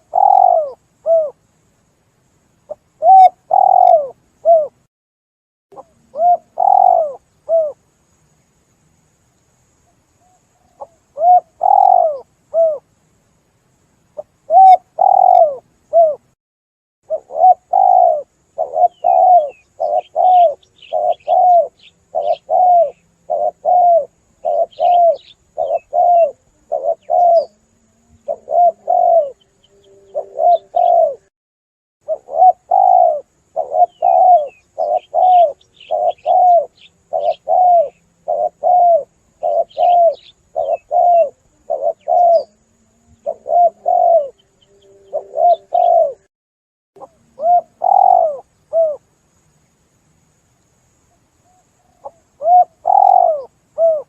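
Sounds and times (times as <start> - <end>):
dove cooing: 0.0 - 1.4, 2.7 - 4.8, 5.8 - 7.8, 10.2 - 12.8, 14.2 - 16.3, 17.1 - 31.3, 32.0 - 46.3, 47.0 - 49.0, 51.5 - 54.0
faint high bird chirps: 0.0 - 1.4, 2.6 - 4.8, 5.7 - 8.4, 9.8 - 12.8, 14.1 - 16.3, 17.1 - 31.3, 32.0 - 46.3, 47.0 - 49.0, 51.1 - 54.0.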